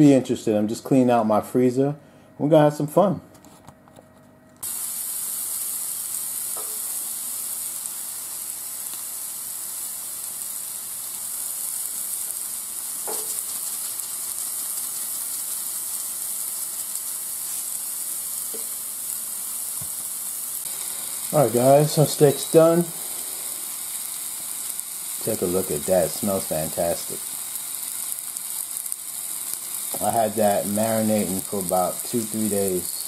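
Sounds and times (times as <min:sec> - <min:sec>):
steak sizzling on a grill: 0:04.6 - 0:33.0.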